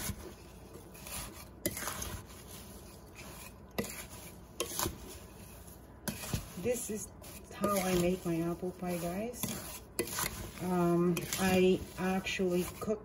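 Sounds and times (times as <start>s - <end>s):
wooden spoon stirring in glass bowl: 0.0s - 13.0s.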